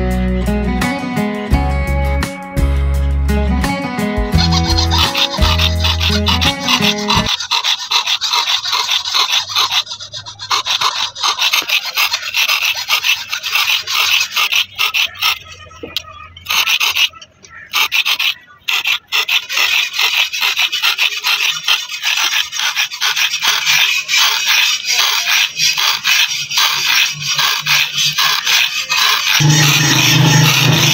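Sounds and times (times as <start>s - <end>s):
file rasping on steel blade: 4.4s - 30.9s.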